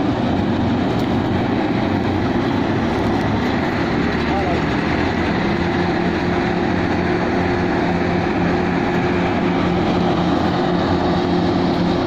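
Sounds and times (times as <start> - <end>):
tractor engine and thresher humming: 0.0 - 12.0.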